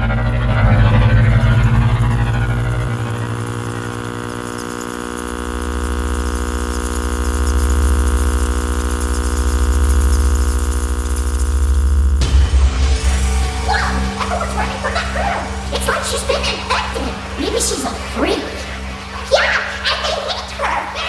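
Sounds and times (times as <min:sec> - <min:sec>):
droning hum with low pulse: 0:00.0 - 0:21.0.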